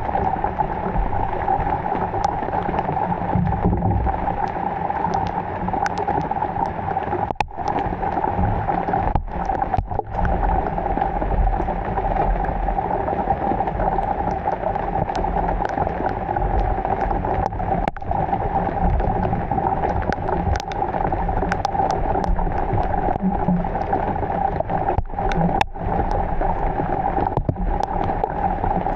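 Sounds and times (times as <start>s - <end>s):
heavy rain: 0.0s - 28.9s.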